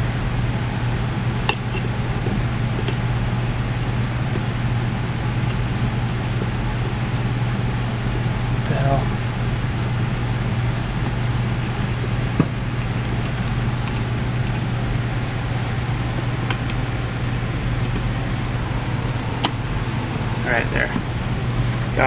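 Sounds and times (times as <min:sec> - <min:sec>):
room noise hum and hiss: 0:00.0 - 0:22.0.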